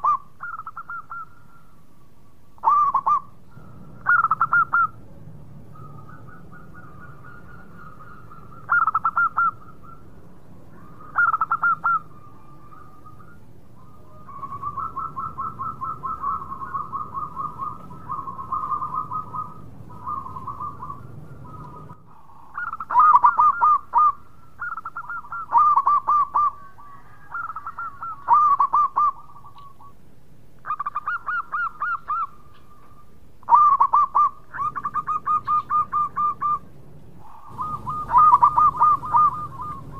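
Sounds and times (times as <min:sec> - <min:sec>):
dove cooing: 0:00.0 - 0:30.0, 0:30.6 - 0:39.9
low background hum: 0:00.0 - 0:39.9.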